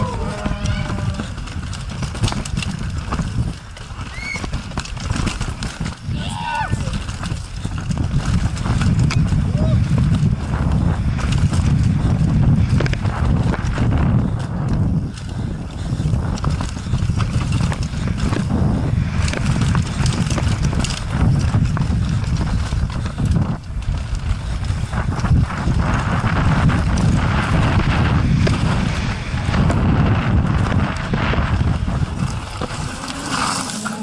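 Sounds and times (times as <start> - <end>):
low wind noise: 0.0 - 34.0
mountain bike clattering over rocks: 0.0 - 34.0.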